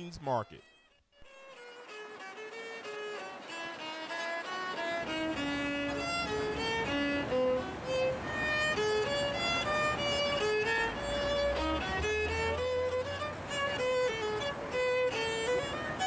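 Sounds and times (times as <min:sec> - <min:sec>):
solo violin melody: 0:01.2 - 0:16.0.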